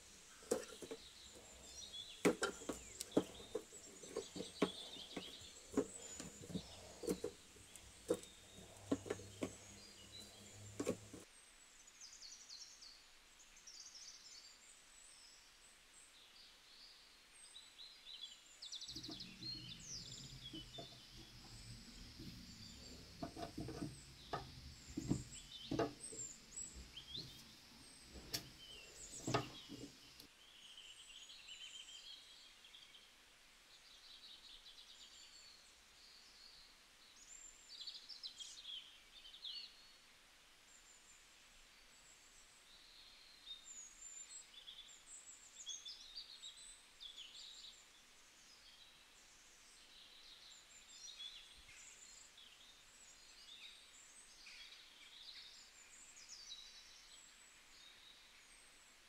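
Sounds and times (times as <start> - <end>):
small birds chirping: 0.0 - 40.1, 41.8 - 59.0.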